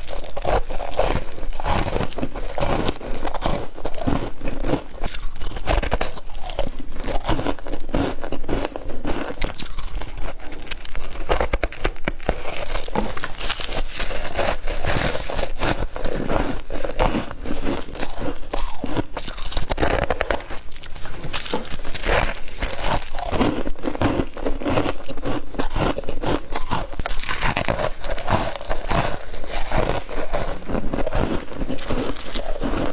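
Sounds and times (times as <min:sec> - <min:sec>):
crunching and chewing frost: 0:00.0 - 0:32.9.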